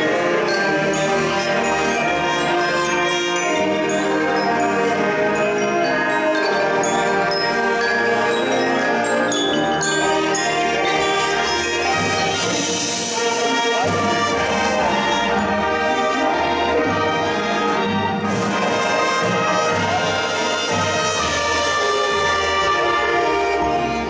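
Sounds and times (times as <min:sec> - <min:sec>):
brass section playing chords: 0:00.0 - 0:24.0.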